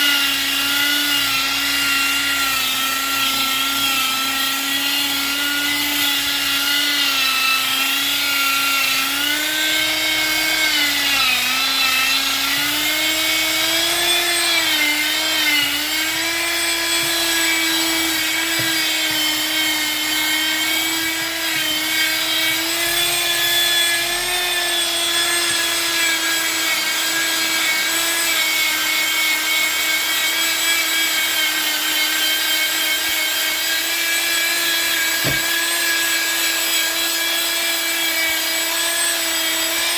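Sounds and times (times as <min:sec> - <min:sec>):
wood router motor whining: 0:00.0 - 0:39.9.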